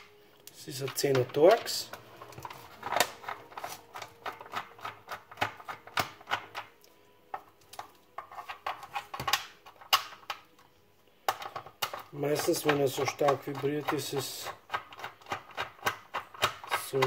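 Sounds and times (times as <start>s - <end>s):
screwdriver and plastic parts clicking: 0.7s - 10.6s, 11.3s - 17.0s.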